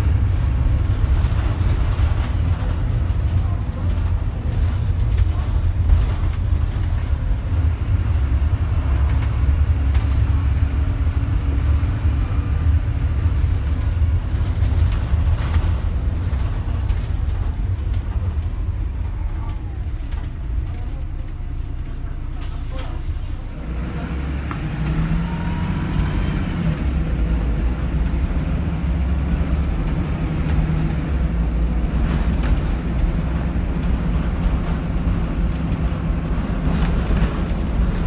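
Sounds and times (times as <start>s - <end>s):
bus diesel engine drone: 0.0s - 38.0s
road and body noise: 0.0s - 38.0s.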